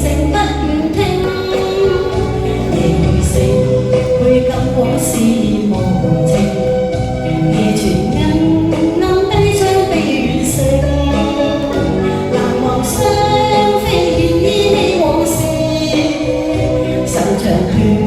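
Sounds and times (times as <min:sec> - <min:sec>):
instrumental accompaniment: 0:00.0 - 0:18.0
person singing: 0:00.0 - 0:18.0.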